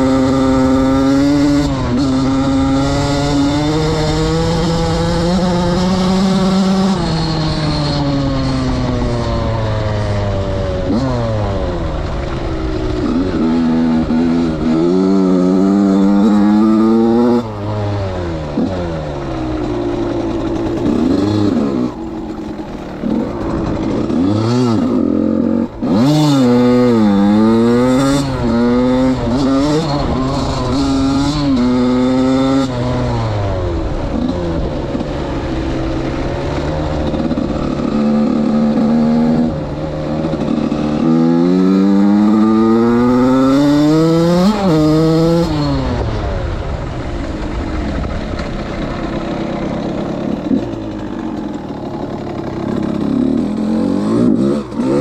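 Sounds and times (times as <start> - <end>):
two-stroke dirt bike revving: 0.0 - 55.0.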